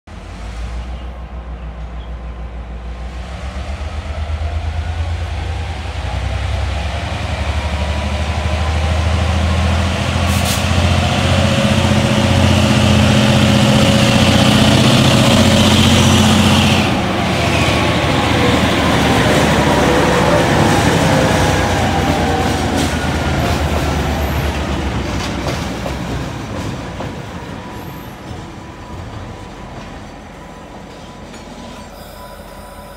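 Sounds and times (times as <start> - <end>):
diesel locomotive engine: 0.1 - 32.9.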